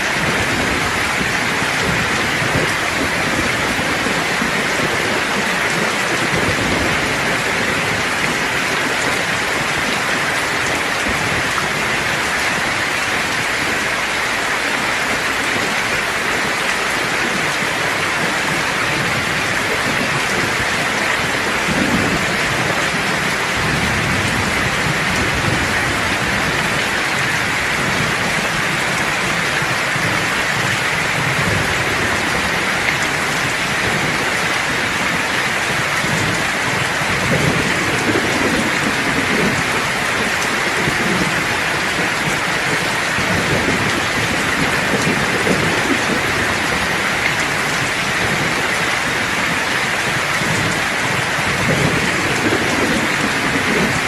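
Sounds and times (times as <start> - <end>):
distant thunder rumbling: 0.0 - 54.0
heavy rain hissing: 0.0 - 54.0.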